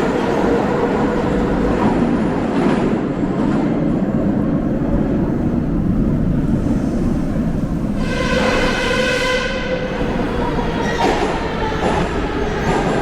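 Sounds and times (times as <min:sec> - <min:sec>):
train rumbling along rails: 0:00.0 - 0:13.0.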